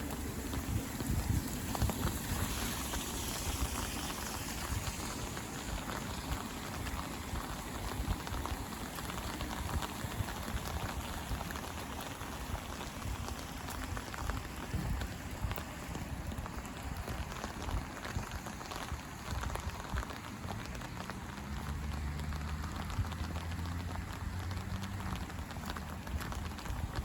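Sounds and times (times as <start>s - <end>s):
rain drops pattering: 0.0s - 27.0s.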